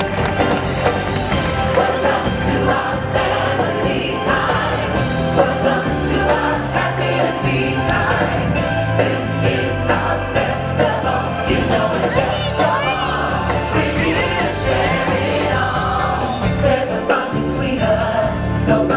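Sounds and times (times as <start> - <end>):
bass line: 0.0 - 18.9
choir singing: 0.0 - 18.9.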